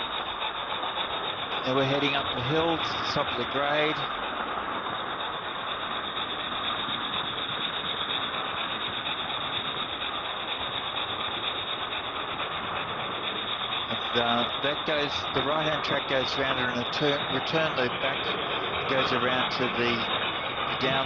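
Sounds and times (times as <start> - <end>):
model train motor whirring: 0.0 - 21.0.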